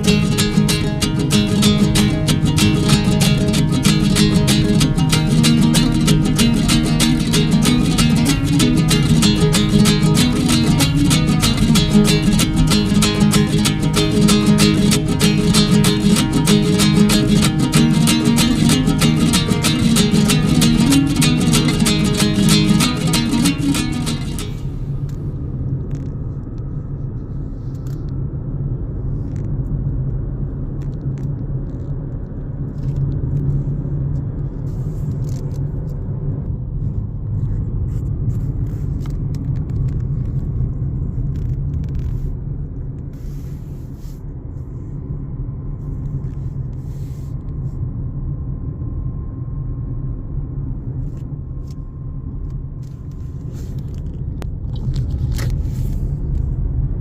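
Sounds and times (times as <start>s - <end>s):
road and engine rumble: 0.0s - 57.0s.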